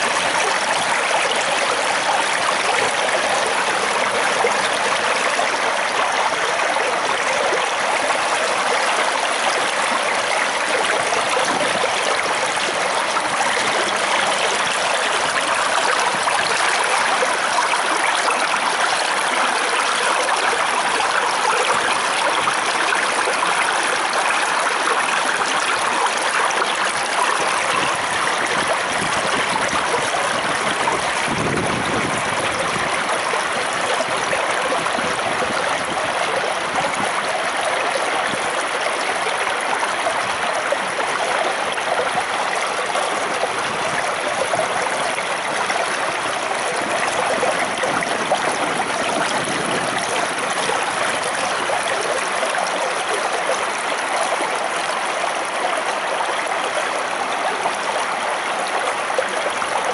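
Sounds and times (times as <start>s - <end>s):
stream water splashing over rocks: 0.0s - 59.9s.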